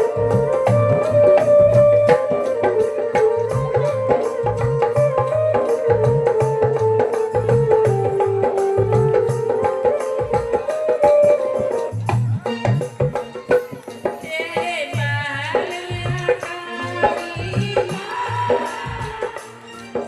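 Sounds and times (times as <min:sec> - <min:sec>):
held devotional melody: 0:00.0 - 0:20.0
tabla rhythm: 0:00.0 - 0:20.0.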